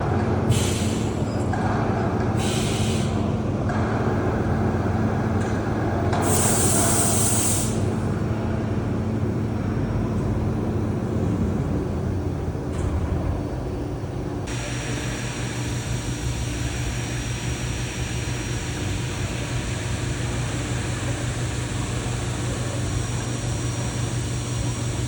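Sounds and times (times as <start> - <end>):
machining center humming: 0.0 - 25.0.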